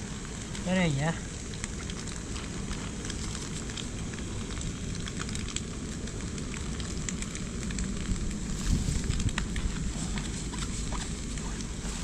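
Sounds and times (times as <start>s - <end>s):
crackles: 0.0s - 12.0s.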